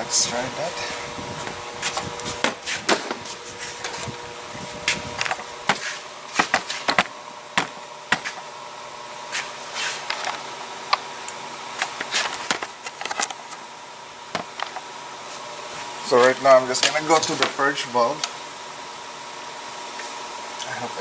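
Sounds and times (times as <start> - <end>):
steady shop hum: 0.0 - 21.0.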